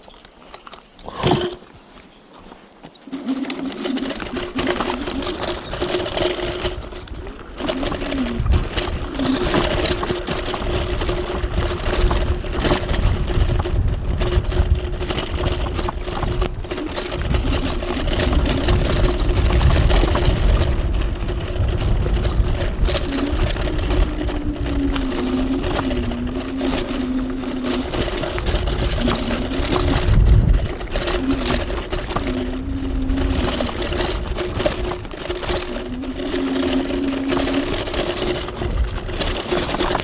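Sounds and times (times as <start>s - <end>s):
knocks and rattles: 1.1s - 1.7s, 3.0s - 40.0s
electric motor whine: 3.1s - 40.0s
heavy low rumble: 3.7s - 39.5s.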